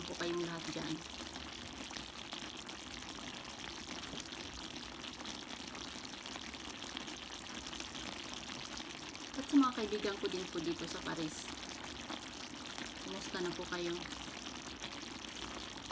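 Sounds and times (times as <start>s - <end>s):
fat sizzling crackle: 0.0s - 15.9s
stew bubbling softly in a pan: 0.0s - 15.9s.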